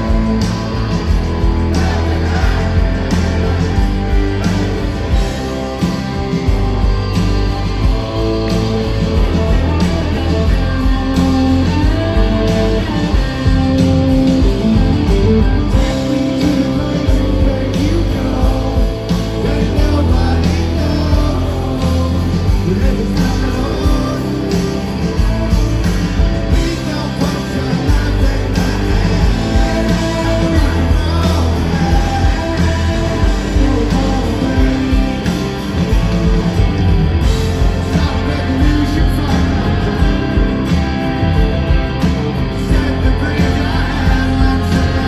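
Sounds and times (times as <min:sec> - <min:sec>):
person singing: 0:00.0 - 0:06.1, 0:09.4 - 0:36.8, 0:37.4 - 0:45.0
rock band playing live: 0:00.0 - 0:45.0.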